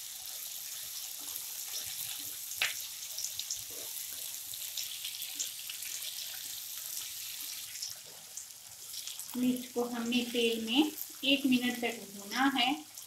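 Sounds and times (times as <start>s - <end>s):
chillies sizzling in oil: 0.0s - 13.0s.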